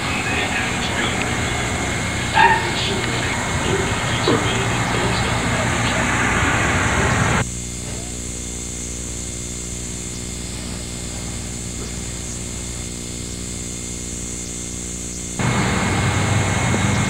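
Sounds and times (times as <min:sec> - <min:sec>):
noisy background sound: 0:00.0 - 0:17.0
steady low hum: 0:00.0 - 0:17.0.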